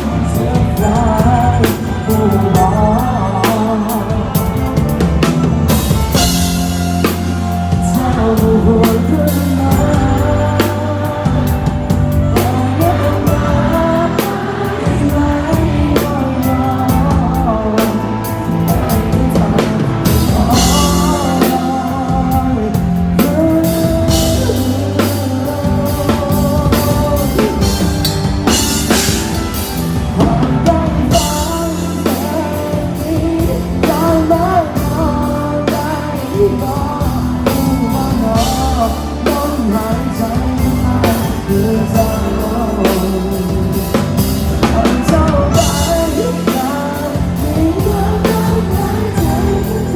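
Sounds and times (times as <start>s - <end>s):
live band music: 0.0s - 49.9s
person singing: 0.0s - 49.9s.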